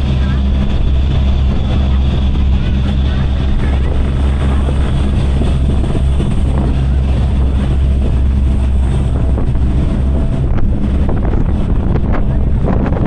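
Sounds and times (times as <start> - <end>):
ferry engines droning: 0.0 - 13.0
rushing water: 0.0 - 13.0
wind buffeting microphone: 0.0 - 13.0.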